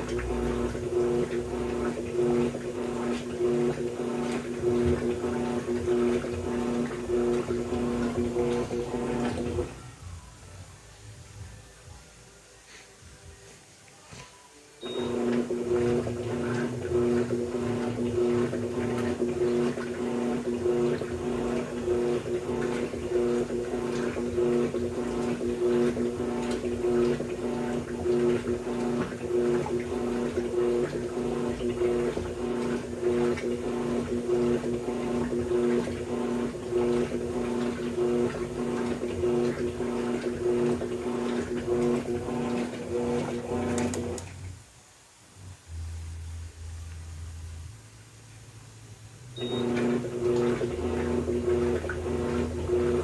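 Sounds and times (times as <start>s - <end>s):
water swishing in tub: 0.0s - 9.8s, 14.9s - 44.6s, 48.8s - 53.0s
washing machine motor humming: 0.0s - 10.4s, 14.8s - 44.7s, 45.3s - 53.0s.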